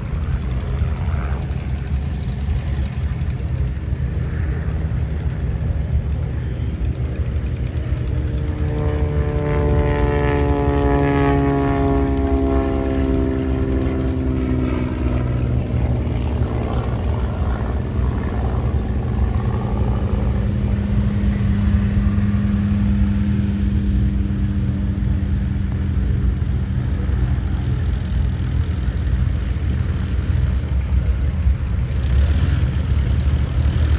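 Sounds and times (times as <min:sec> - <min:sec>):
tow tractor engine running: 0:00.0 - 0:33.9.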